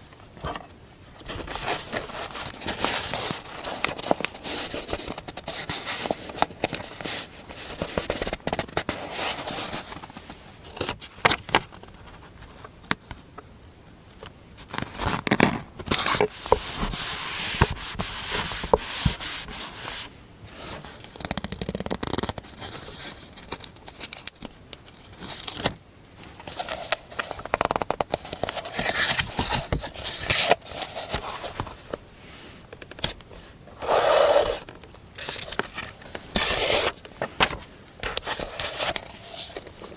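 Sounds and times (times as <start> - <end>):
paper rustling and scraping: 1.2 - 12.7, 14.6 - 39.9.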